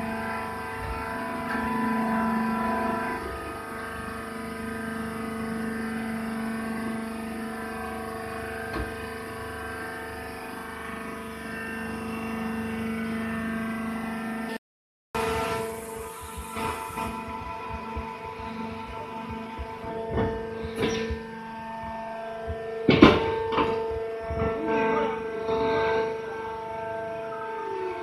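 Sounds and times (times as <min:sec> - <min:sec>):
baler machine humming: 0:00.0 - 0:14.6, 0:15.2 - 0:28.0.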